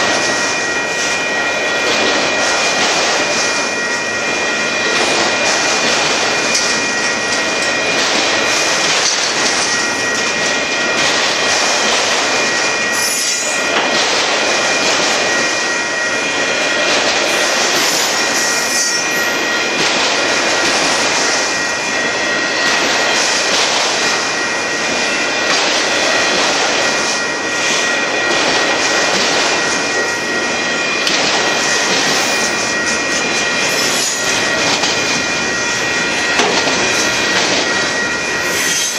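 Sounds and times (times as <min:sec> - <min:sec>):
high-pitched tone: 0:00.0 - 0:38.9
train wheels rumbling on rails: 0:00.0 - 0:38.9.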